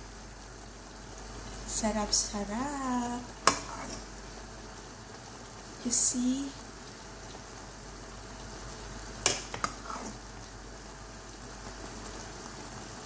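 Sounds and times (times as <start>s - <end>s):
sauce bubbling and sizzling: 0.0s - 13.0s.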